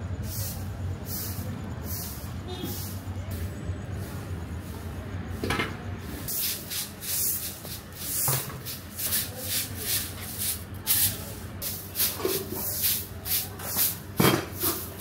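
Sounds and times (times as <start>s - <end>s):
broom sweeping pavement: 0.0s - 15.0s.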